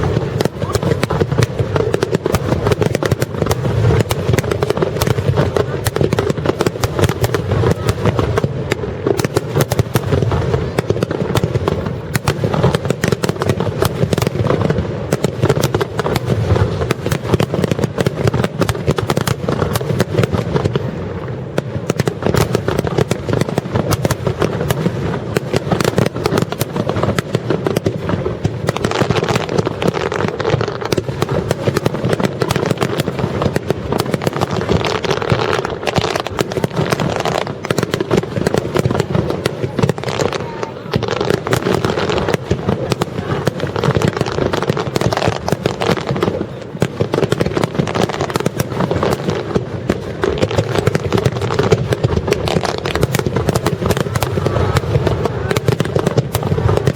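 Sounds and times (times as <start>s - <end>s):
fireworks bursting and crackling: 0.0s - 56.9s.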